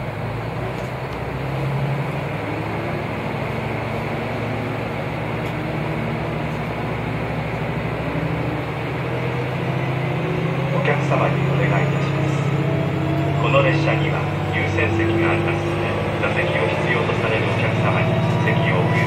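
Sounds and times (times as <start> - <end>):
diesel railcar engine running: 0.0 - 19.0.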